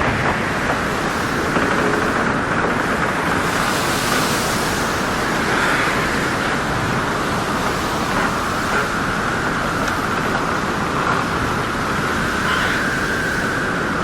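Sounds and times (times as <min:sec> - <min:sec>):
steady rushing ambience: 0:00.0 - 0:14.0.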